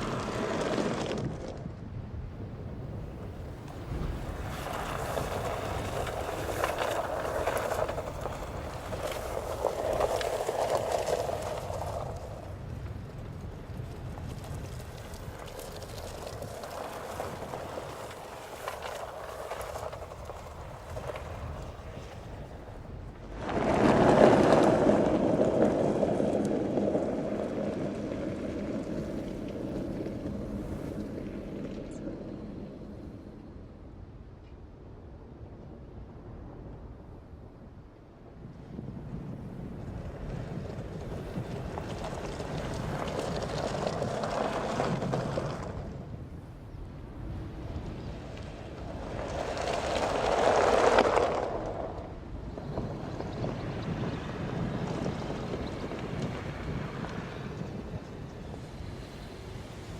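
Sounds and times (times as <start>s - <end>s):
loose stones clicking under tyres: 0.0s - 32.7s, 39.8s - 59.9s
car tyres and engine rumbling: 0.0s - 33.4s, 39.0s - 59.9s.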